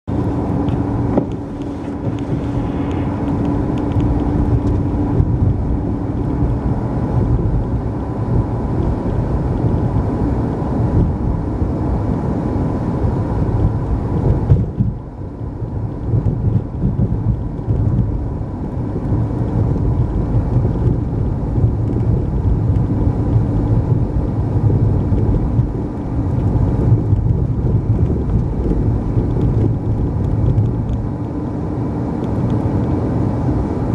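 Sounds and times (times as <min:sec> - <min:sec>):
car engine and tyre rumble: 0:00.0 - 0:33.9.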